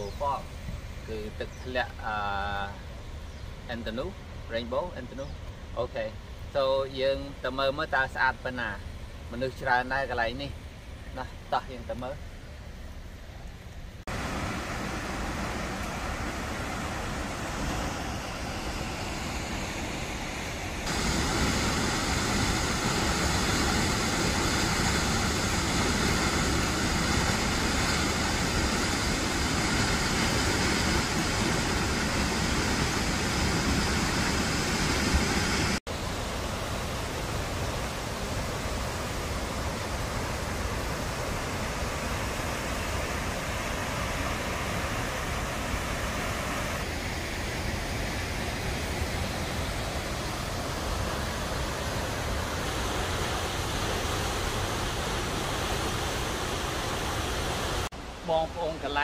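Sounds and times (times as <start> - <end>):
waterfall roaring: 0.0 - 2.7, 14.1 - 59.0.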